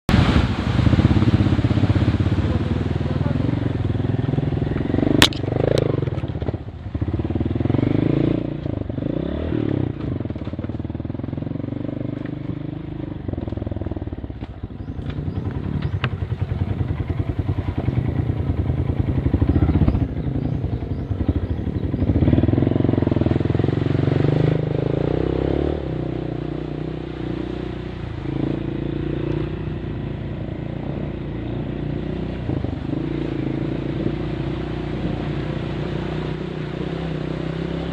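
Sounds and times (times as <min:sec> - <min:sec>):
vehicle engine revving: 0:00.1 - 0:37.9.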